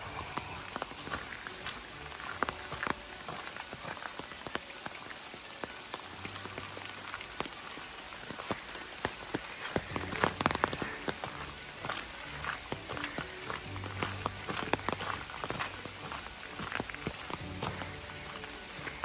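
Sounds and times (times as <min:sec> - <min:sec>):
raindrops pattering on leaves: 0:00.0 - 0:19.0.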